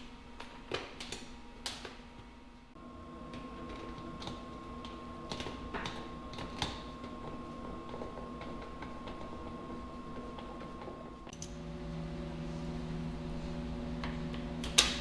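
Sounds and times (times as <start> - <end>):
steady low hum: 1.2 - 15.0.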